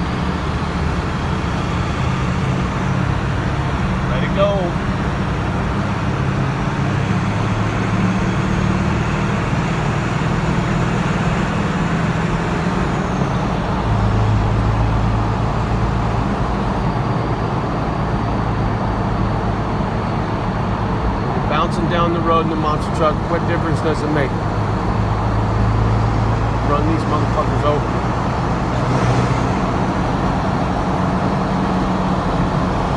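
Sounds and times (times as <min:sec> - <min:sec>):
road and tyre noise: 0:00.0 - 0:32.9
truck engine hum: 0:00.0 - 0:32.9.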